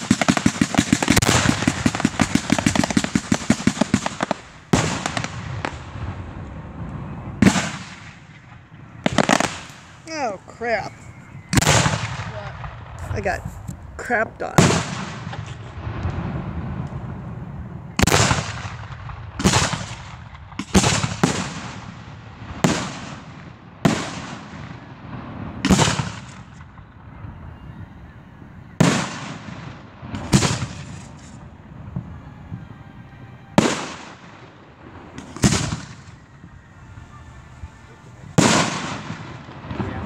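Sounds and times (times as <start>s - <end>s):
fireworks bangs with rumbling echo: 0.0s - 40.0s.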